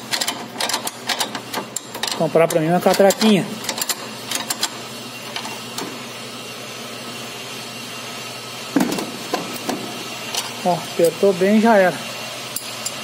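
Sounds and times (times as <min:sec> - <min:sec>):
workshop hum: 0:00.0 - 0:13.0.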